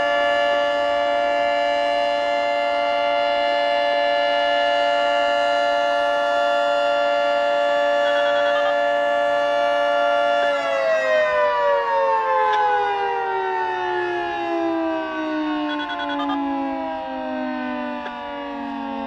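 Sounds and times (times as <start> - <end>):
warning siren winding down: 0.0 - 19.0.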